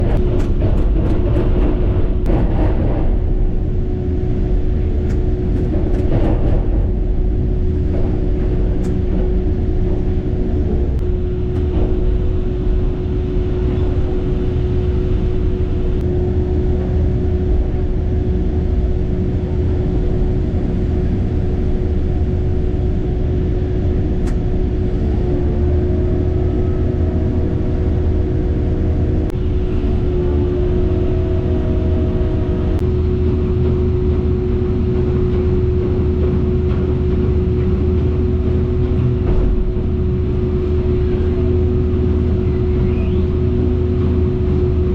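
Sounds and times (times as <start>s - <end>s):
heavy machine engine rumble: 0.0s - 44.9s.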